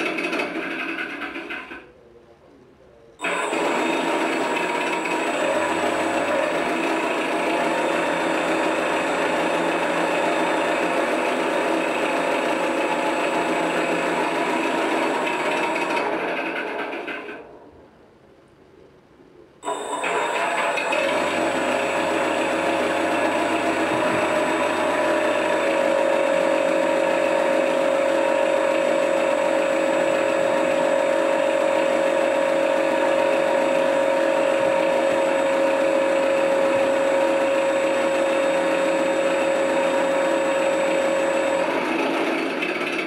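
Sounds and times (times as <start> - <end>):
steady whine: 1.0 - 43.0
electric motor and propeller whir: 3.2 - 17.5, 19.6 - 43.0.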